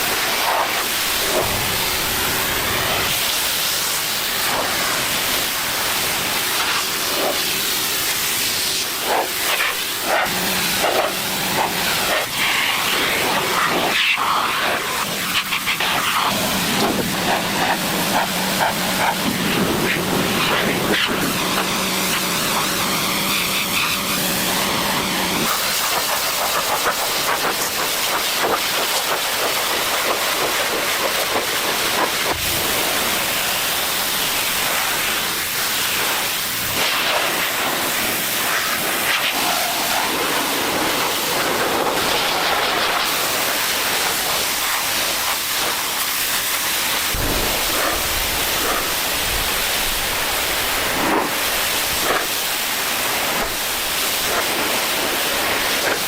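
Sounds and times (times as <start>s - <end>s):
loud high hiss: 0.0s - 56.0s.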